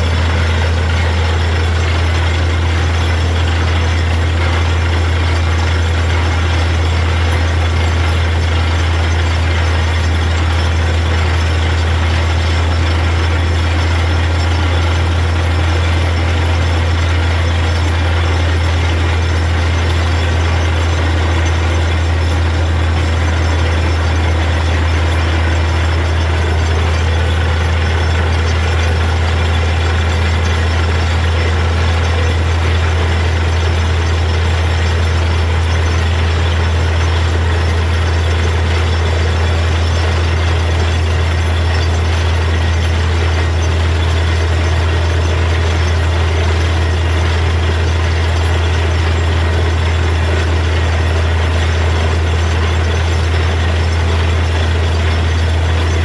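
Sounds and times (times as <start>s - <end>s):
drilling rig engine drone: 0.0s - 56.0s.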